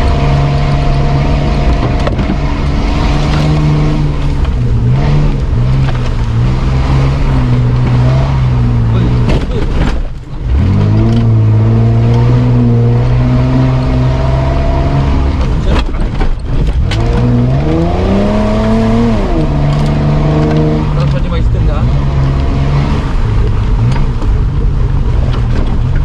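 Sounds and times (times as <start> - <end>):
car engine working hard: 0.0 - 26.0.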